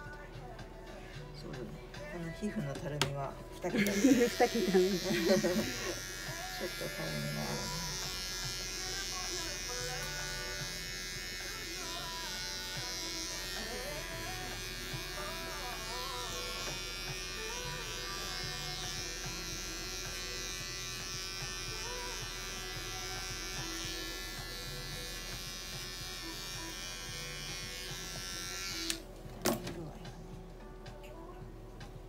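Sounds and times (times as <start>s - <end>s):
pet clipper buzzing: 3.8s - 29.8s.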